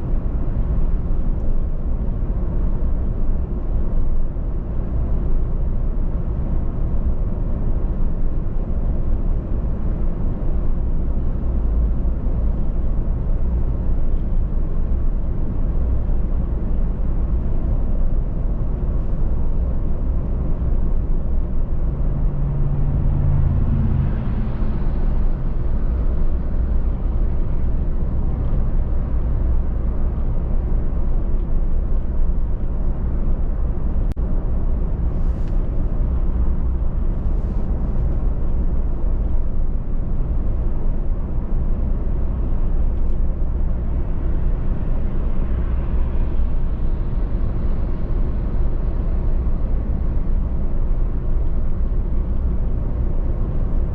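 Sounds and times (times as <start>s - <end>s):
car driving tyre and engine rumble: 0.0s - 53.9s.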